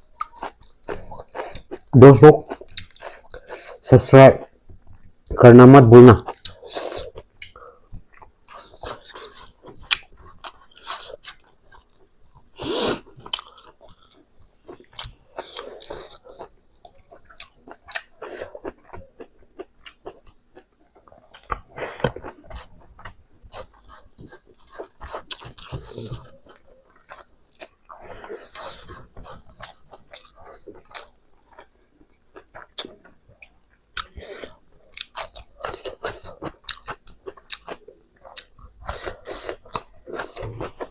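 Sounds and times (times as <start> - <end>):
chewing with wet smacking: 0.1 - 3.8, 6.2 - 40.9.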